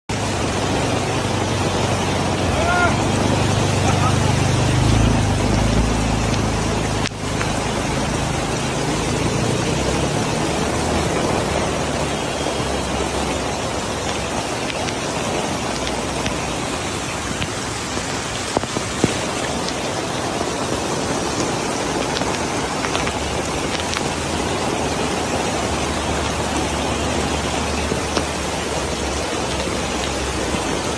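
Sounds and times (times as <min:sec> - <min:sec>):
rain falling: 0:00.1 - 0:30.9
water rushing down road: 0:00.1 - 0:30.9.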